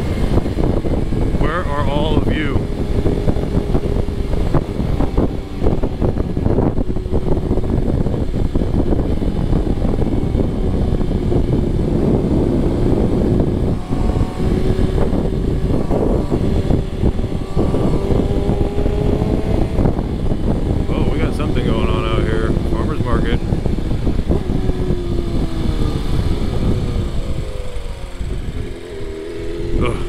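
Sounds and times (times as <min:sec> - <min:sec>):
motorcycle engine droning: 0:00.0 - 0:30.0
wind rushing over microphone: 0:00.0 - 0:30.0.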